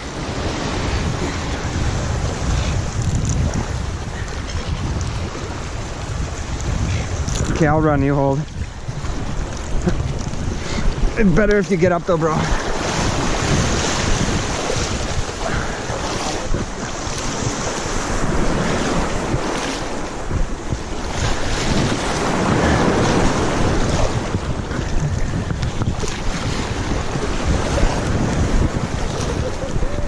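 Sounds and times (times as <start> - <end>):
surf washing against rocks: 0.0 - 30.0
wind buffeting microphone: 0.0 - 30.0.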